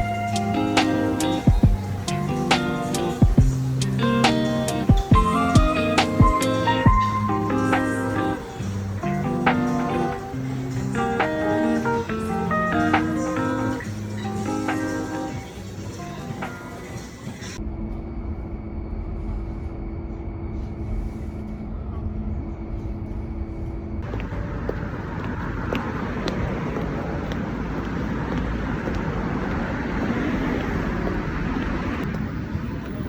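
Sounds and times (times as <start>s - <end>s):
rushing traffic noise: 0.0s - 33.0s.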